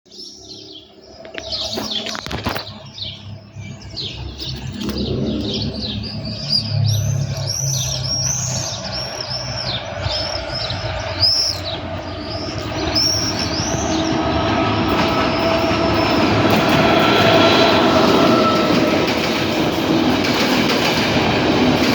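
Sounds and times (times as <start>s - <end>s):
small birds chirping: 0.1s - 18.2s
low rumble of train: 2.7s - 21.9s.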